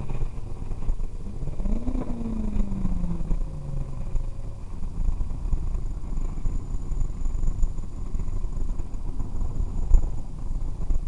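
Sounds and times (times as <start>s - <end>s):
car engine rumble inside cabin: 0.0s - 11.0s
faint high whine: 0.0s - 11.0s.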